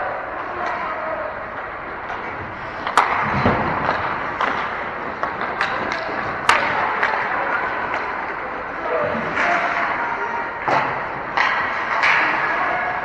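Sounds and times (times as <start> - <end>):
hockey sticks and puck knocks: 0.4 - 13.0.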